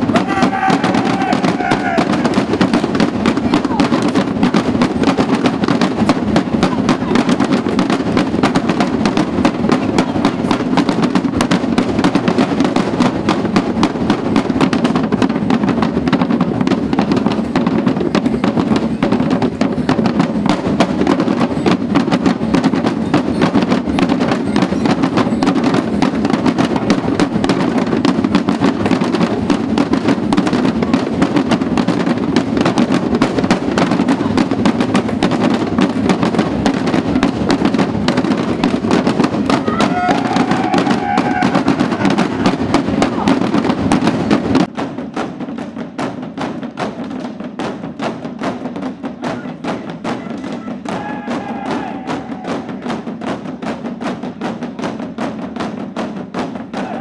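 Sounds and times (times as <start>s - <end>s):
drum band playing: 0.0s - 57.0s.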